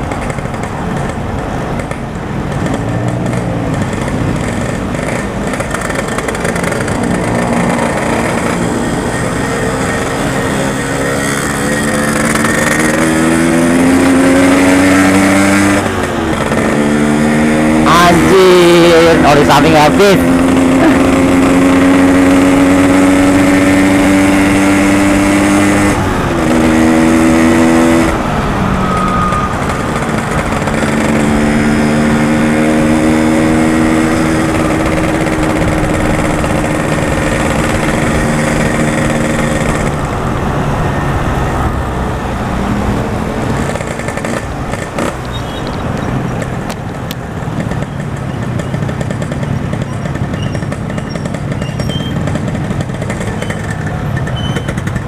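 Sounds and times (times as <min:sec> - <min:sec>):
two-stroke motorcycle engine: 0:00.0 - 0:41.0, 0:41.9 - 0:55.0.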